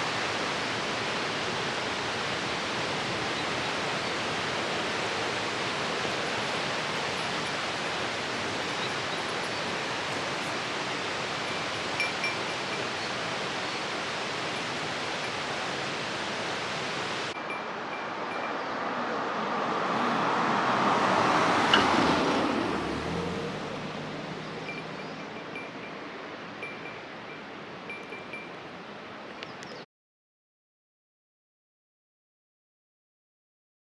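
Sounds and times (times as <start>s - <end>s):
stream rapids rushing: 0.0s - 29.4s.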